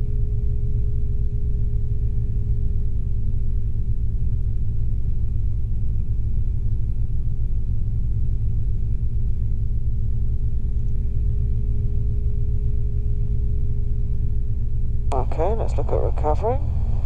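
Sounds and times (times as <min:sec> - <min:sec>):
steady hum tones: 0:00.0 - 0:17.0
helicopter rotor and engine rumble: 0:00.2 - 0:17.0.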